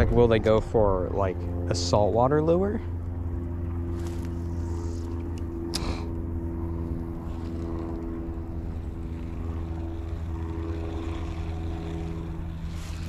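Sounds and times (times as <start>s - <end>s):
motor humming steadily: 0.0s - 13.0s.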